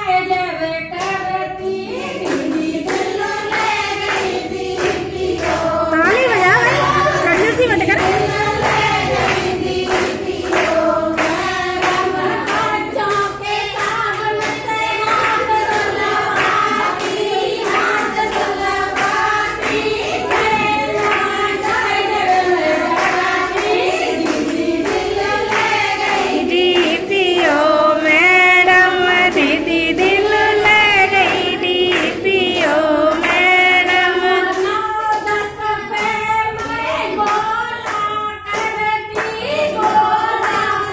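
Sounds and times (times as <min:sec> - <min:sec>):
women singing together: 0:00.0 - 0:40.9
hand claps: 0:00.9 - 0:40.9.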